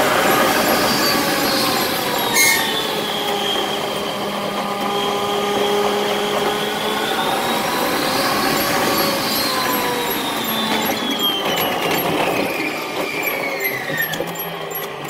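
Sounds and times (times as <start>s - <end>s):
electric train running in tunnel: 0.0s - 15.0s
whining motor tones: 0.3s - 15.0s.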